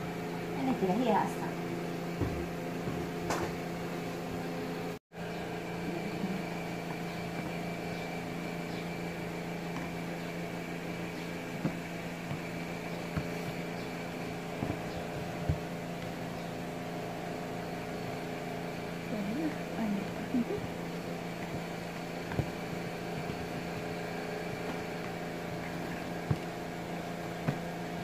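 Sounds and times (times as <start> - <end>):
electric motor hum: 0.0 - 28.0.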